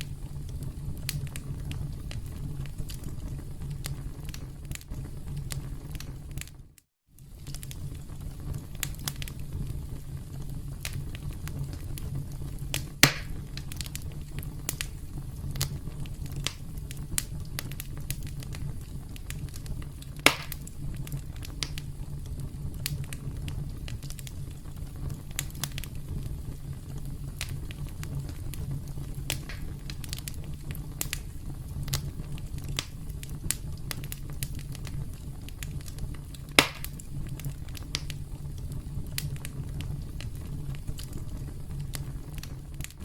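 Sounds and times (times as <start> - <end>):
campfire crackling: 0.0 - 43.0
fire pops: 0.0 - 43.0.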